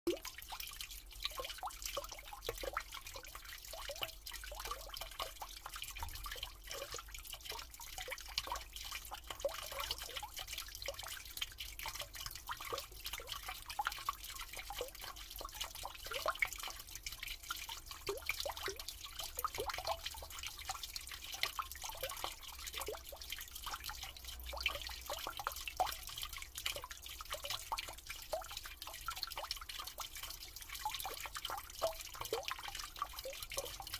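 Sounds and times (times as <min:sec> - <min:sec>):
water running down a drain: 0:00.1 - 0:33.9.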